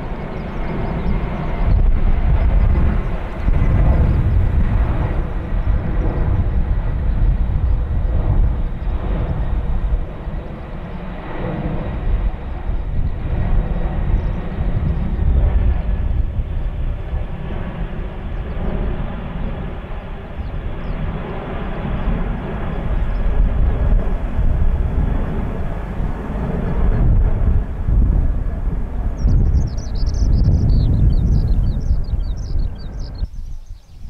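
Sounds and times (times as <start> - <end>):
jet engines rumbling overhead: 0.0 - 34.0
wind buffeting microphone: 0.0 - 34.0.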